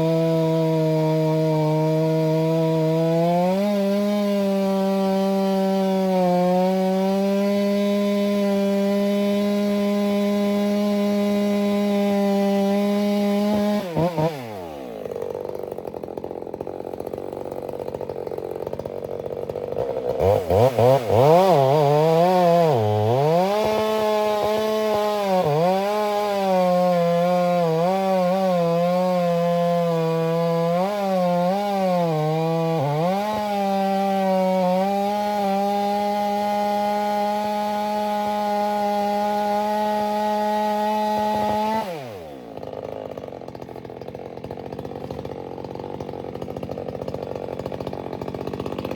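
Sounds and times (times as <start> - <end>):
chainsaw revving and cutting wood: 0.0 - 48.9.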